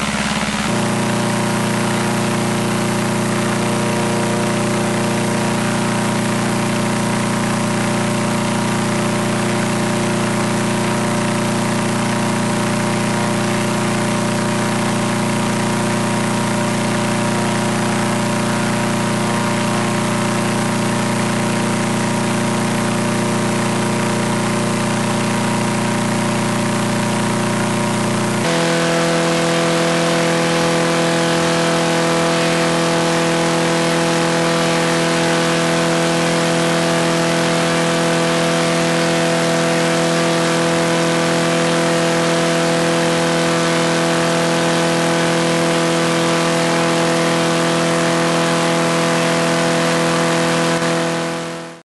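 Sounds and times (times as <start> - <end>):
engine driving propeller at high revs: 0.0 - 51.8.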